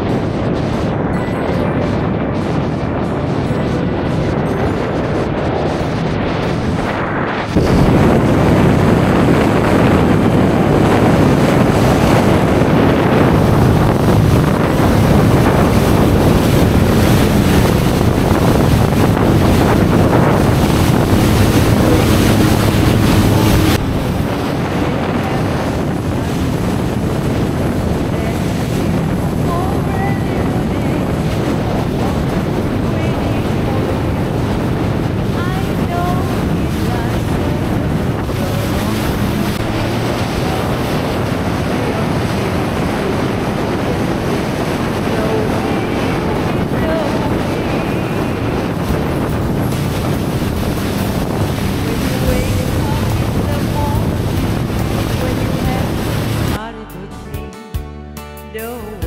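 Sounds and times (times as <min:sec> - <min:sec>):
wind buffeting microphone: 0:00.0 - 0:56.6
jet ski engine: 0:00.0 - 0:57.1
rushing water spray: 0:04.2 - 0:56.6.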